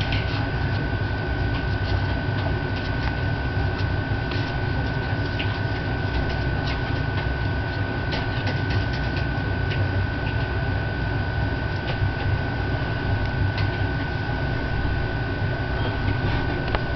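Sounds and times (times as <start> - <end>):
low hum and hiss: 0.0 - 16.9.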